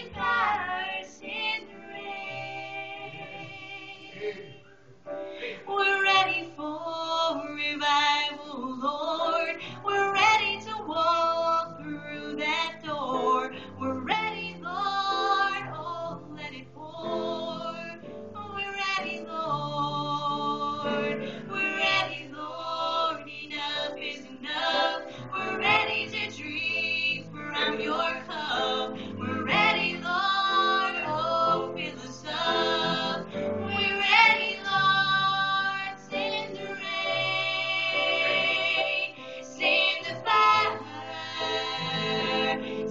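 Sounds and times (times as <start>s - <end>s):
woman singing: 5.6s - 42.9s.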